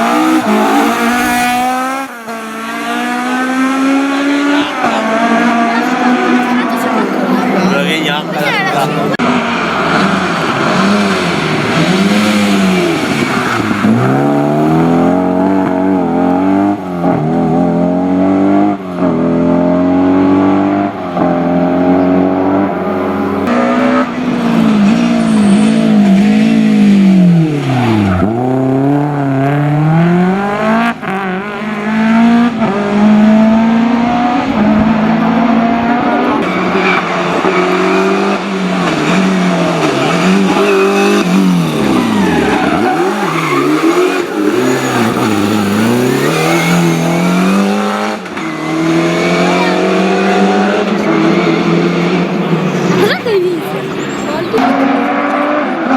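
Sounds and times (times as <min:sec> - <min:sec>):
rally car engine revving: 0:00.0 - 0:55.9.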